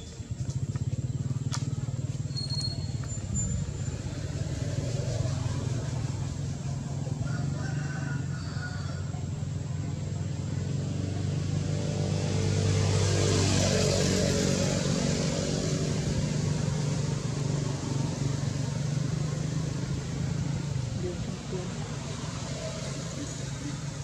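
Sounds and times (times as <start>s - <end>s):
vehicle engine passing by: 0.0s - 24.0s.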